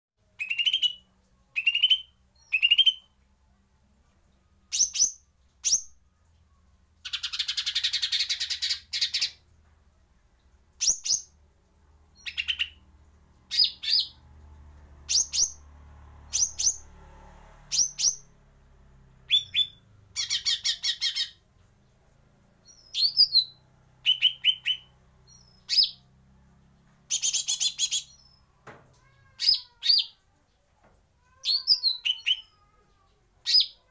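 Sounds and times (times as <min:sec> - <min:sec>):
bird chirping: 0:00.3 - 0:17.0, 0:17.7 - 0:18.4, 0:19.1 - 0:33.9.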